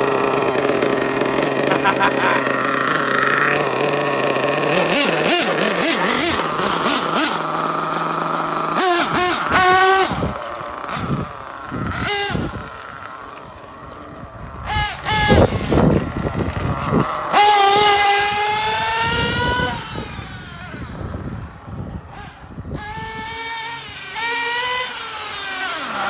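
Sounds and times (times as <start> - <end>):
small two-stroke engine revving: 0.0 - 26.0.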